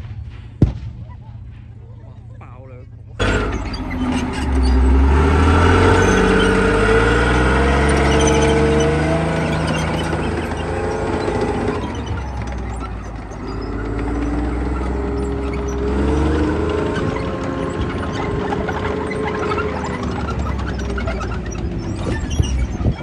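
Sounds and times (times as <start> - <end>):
tank diesel engine running: 0.0 - 23.0
tank tracks driving past: 0.0 - 23.0.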